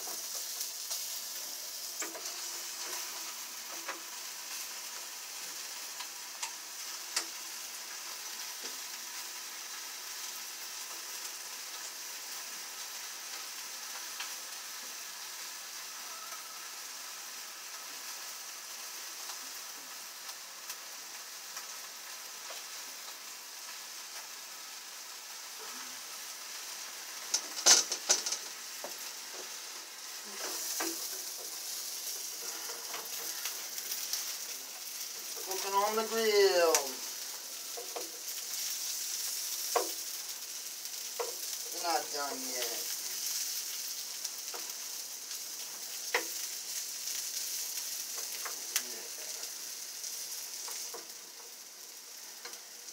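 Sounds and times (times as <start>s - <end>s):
food sizzling on electric grill: 0.0s - 52.9s.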